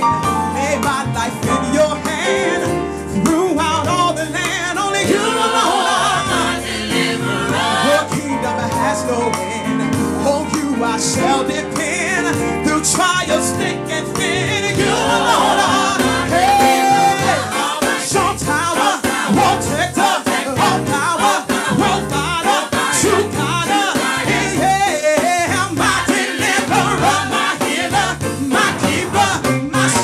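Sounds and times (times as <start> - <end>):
bass and drums beat: 0.0 - 30.0
singers with backing band: 0.6 - 30.0.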